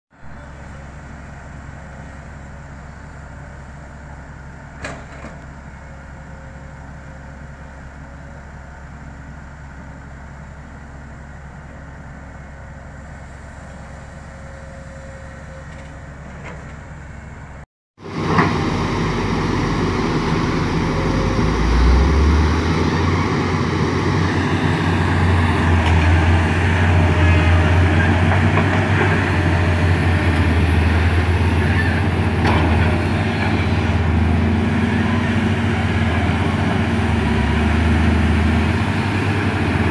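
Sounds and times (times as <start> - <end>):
diesel engines running: 0.2 - 39.9.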